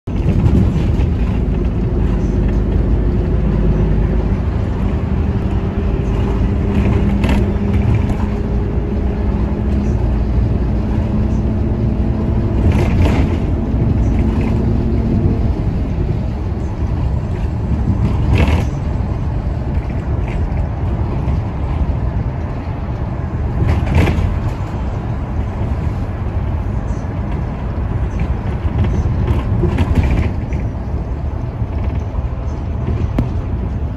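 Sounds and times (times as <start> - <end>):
bus engine and tyres rumbling: 0.0 - 33.9.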